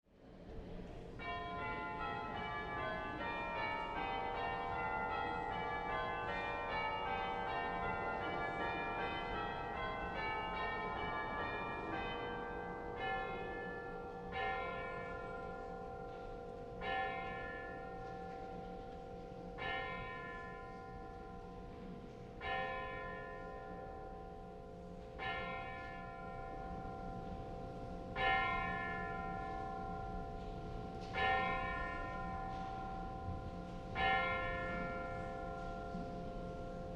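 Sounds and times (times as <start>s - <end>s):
church bells ringing: 1.2s - 36.9s.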